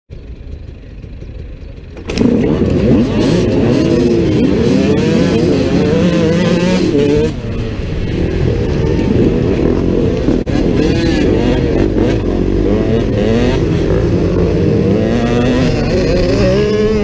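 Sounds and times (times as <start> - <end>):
dirt bike engines revving: 0.2 - 17.0.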